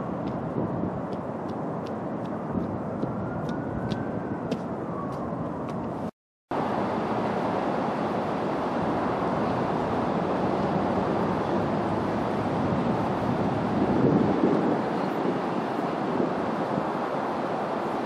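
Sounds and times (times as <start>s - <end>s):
distant traffic hum: 0.0s - 18.0s.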